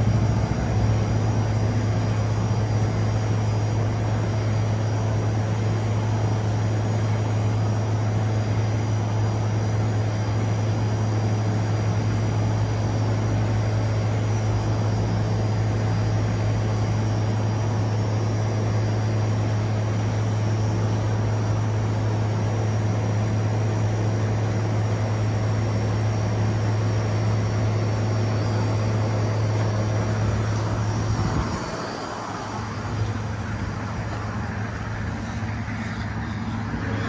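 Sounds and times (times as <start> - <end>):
air conditioner units humming: 0.0 - 37.0.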